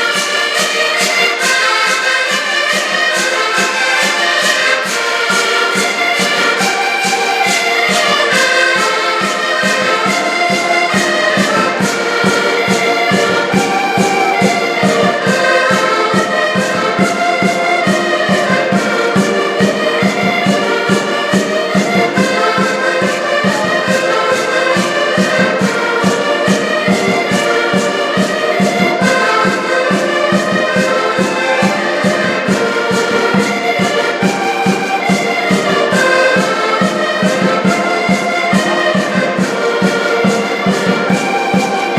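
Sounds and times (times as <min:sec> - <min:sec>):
band playing live music: 0:00.0 - 0:41.9.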